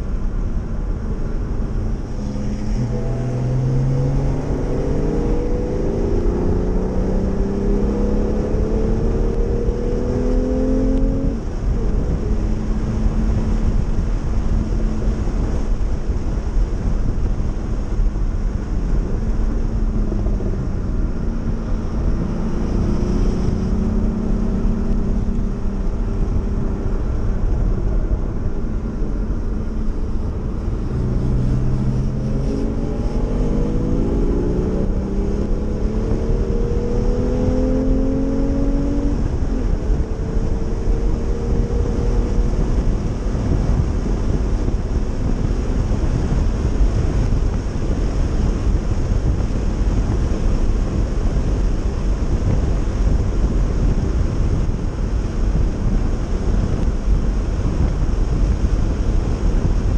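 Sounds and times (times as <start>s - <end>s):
sports car engine accelerating: 0.0s - 59.9s
wind and tyre noise: 0.0s - 59.9s.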